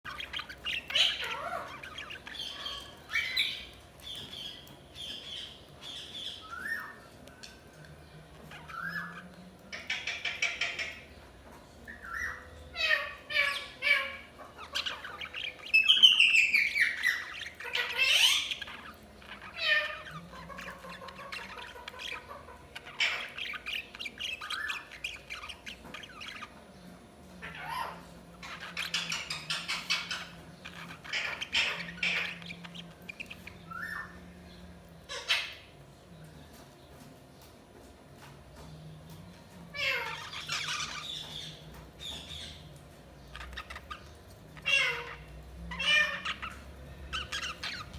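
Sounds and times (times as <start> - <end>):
budgies chirping and squawking: 0.0 - 35.8, 38.2 - 47.9.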